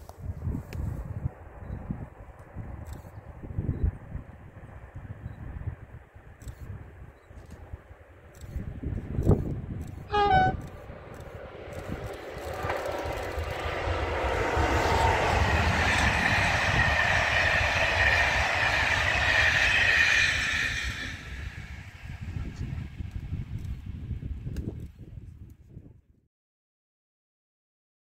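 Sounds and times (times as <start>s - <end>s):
train wheel-on-rail rumble: 0.0s - 25.1s
high locomotive whine: 0.0s - 25.3s.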